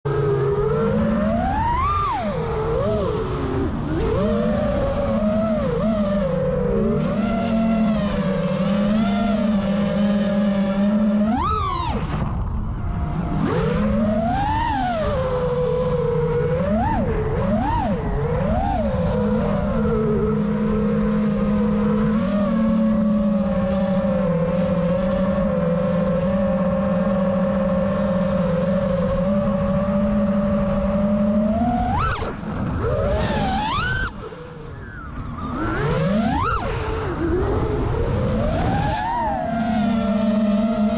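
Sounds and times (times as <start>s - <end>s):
drone motors whining: 0.1s - 40.9s.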